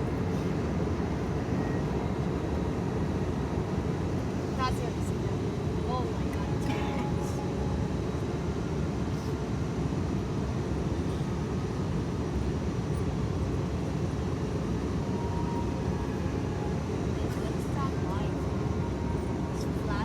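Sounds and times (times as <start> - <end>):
airliner cabin engine noise: 0.0 - 20.0.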